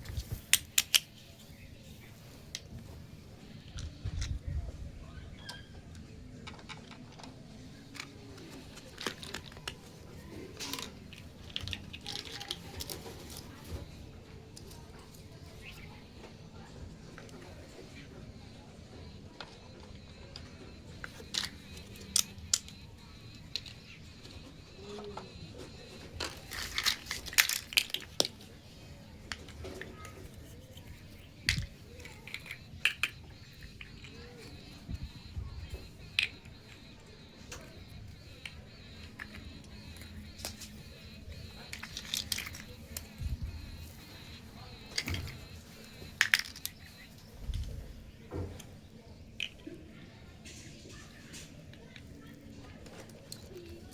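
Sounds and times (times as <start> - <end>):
plastic toy pieces clicking: 0.1 - 1.2, 6.4 - 16.0, 19.8 - 47.8, 48.5 - 53.9.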